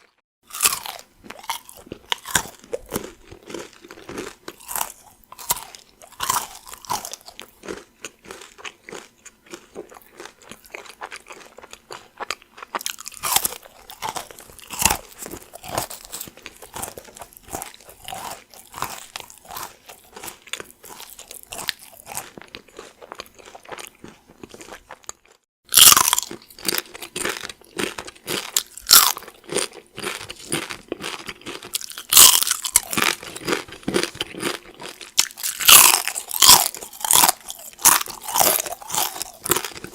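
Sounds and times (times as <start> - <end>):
chewing crispy cereal: 0.0 - 39.9
chewing tortilla chips: 0.0 - 39.9.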